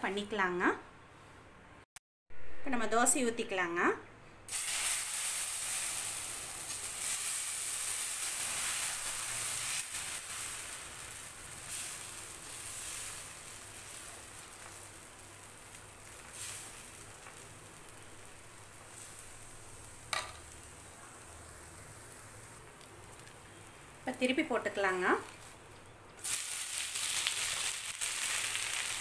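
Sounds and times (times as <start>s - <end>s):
batter sizzling on hot griddle: 4.5s - 24.1s, 25.2s - 29.0s.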